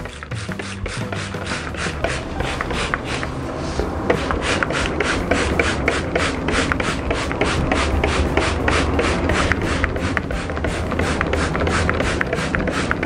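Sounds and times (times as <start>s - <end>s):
spray bottle spraying: 0.0s - 3.3s, 4.1s - 13.0s.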